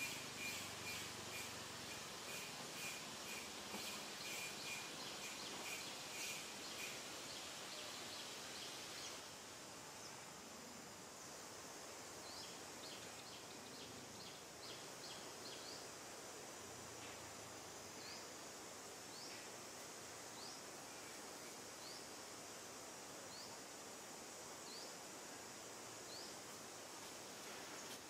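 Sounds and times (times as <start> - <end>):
faint steady hiss: 0.0 - 28.0
insects chirping: 0.0 - 28.0.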